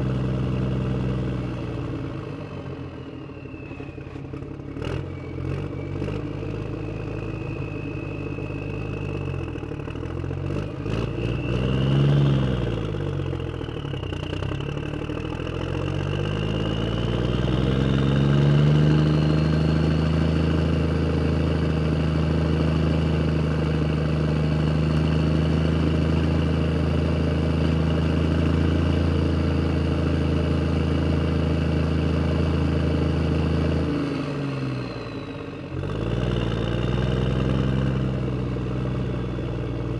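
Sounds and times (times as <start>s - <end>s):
vehicle driving away: 0.0s - 39.9s
vehicle engine idling and revving: 0.0s - 39.9s.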